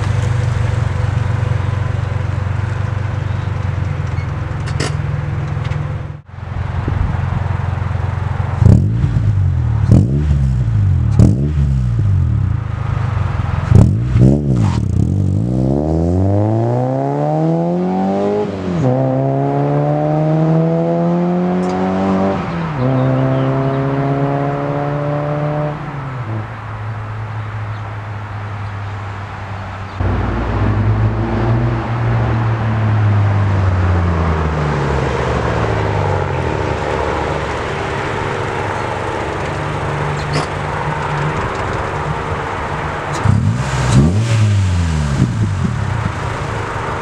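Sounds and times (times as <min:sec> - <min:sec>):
car engine driving: 0:00.0 - 0:47.0.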